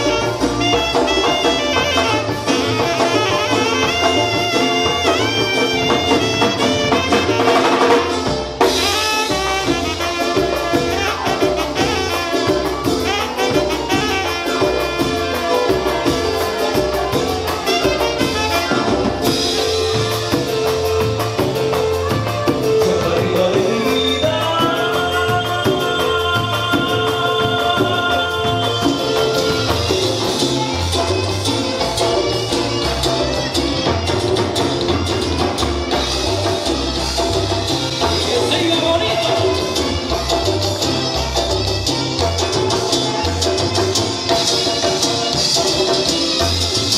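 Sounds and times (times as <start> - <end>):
bass: 0.0 - 46.9
congas: 0.0 - 46.9
drum kit: 0.0 - 46.9
saxophone: 0.0 - 46.9
trumpet: 0.0 - 46.9.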